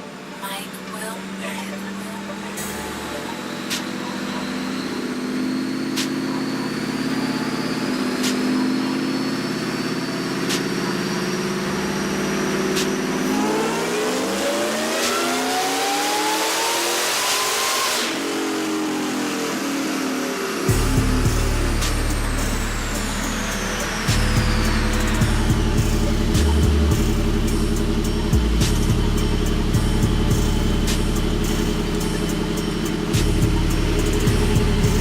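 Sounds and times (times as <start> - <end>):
supercharged engine revving: 0.0 - 35.0
supercharger whine: 0.0 - 35.0.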